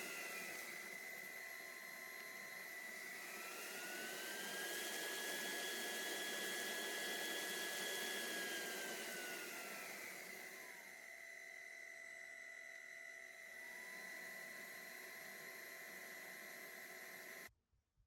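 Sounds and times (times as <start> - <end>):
stick vacuum running: 0.0 - 17.5.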